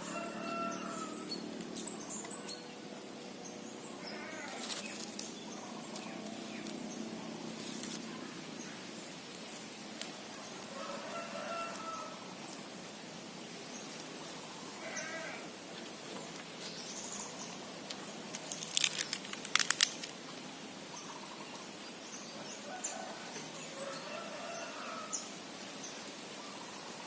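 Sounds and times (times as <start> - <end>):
rural outdoor ambience: 0.0 - 27.0.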